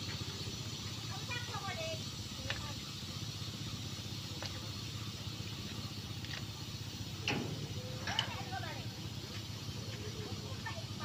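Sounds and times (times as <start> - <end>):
railway wagons rumbling: 0.0 - 11.0
wheels clanking: 0.0 - 11.0.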